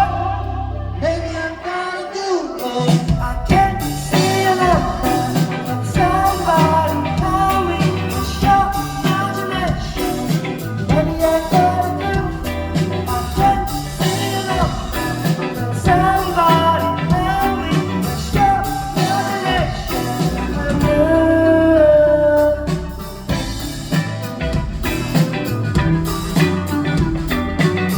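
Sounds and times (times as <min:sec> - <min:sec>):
person singing melody: 0:00.0 - 0:23.2
bass guitar: 0:00.0 - 0:27.9
drums: 0:00.0 - 0:27.9
electric guitar: 0:00.0 - 0:27.9.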